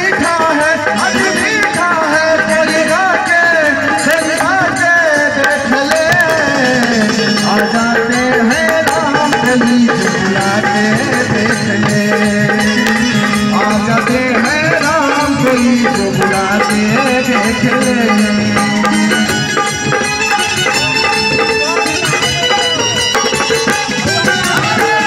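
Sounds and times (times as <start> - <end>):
tabla beat: 0.0 - 25.0
wavering melody: 0.0 - 25.0.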